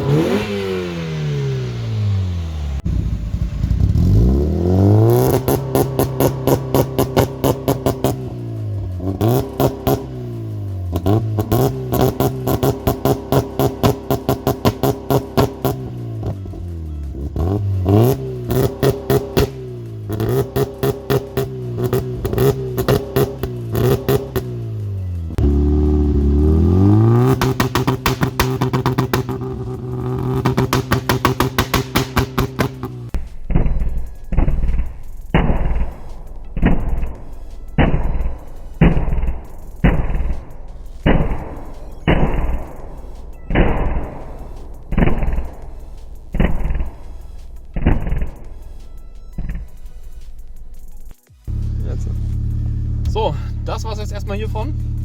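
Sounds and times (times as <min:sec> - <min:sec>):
car engine revving with popping: 0:00.0 - 0:55.0.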